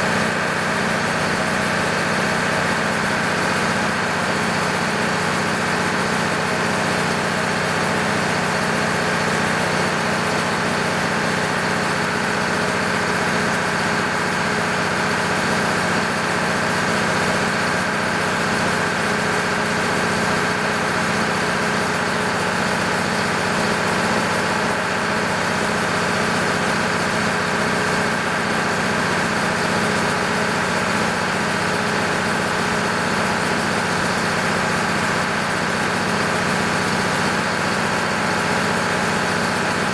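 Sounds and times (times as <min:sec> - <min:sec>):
diesel generator engine running: 0:00.0 - 0:39.9.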